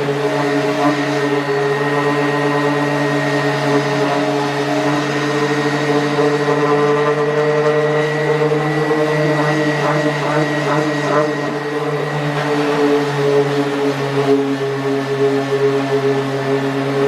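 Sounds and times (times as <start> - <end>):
power sander sanding wood: 0.0 - 17.0.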